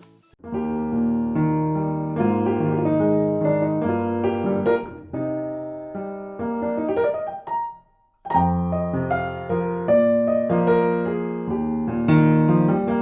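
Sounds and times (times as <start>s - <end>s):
piano chords: 0.4s - 13.0s.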